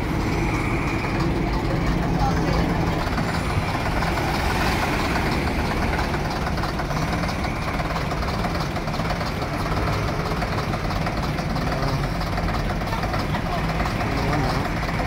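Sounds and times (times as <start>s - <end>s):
diesel bus engine idling: 0.0s - 15.0s.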